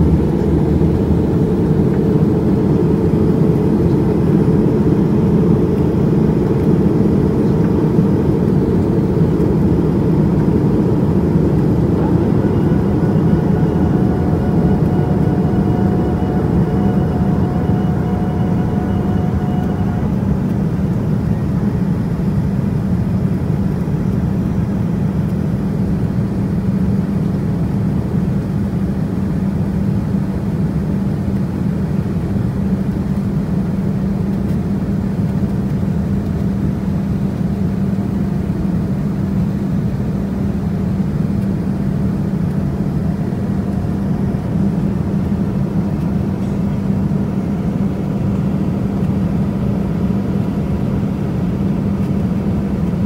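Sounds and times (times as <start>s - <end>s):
airliner cabin noise: 0.0s - 53.0s.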